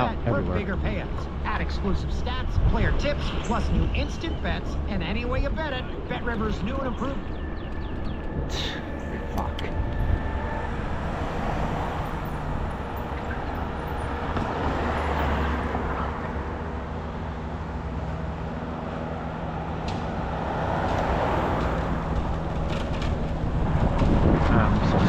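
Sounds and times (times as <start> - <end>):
low engine hum: 0.0 - 25.0
road and wind noise: 0.0 - 25.0.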